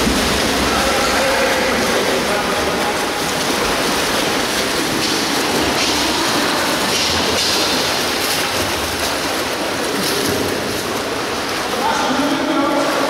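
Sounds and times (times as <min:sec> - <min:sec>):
swimmers splashing: 0:00.0 - 0:13.0.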